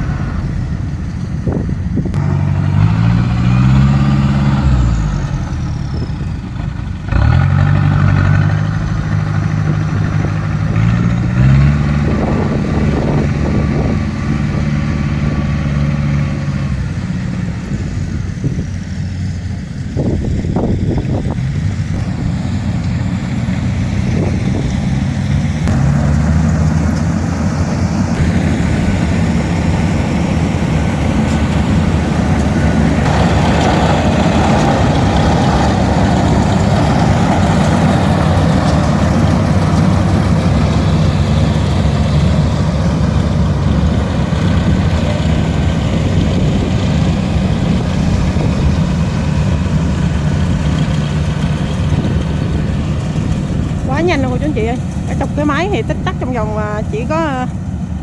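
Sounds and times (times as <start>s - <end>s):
large diesel engine running: 0.0s - 58.0s.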